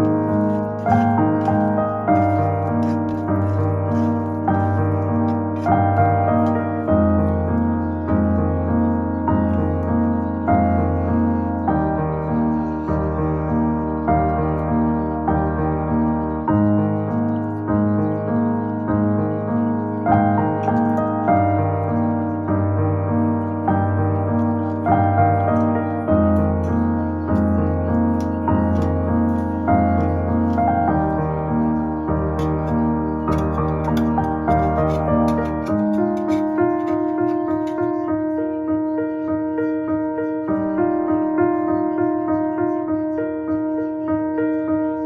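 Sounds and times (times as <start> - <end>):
soft piano music: 0.0 - 45.0.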